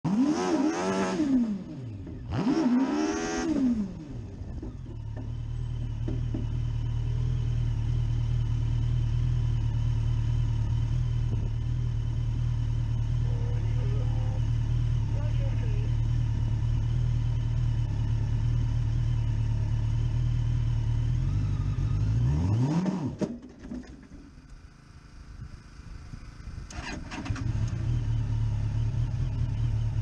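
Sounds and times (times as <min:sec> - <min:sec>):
car engine revving and idling: 0:00.0 - 0:23.3, 0:24.5 - 0:30.0.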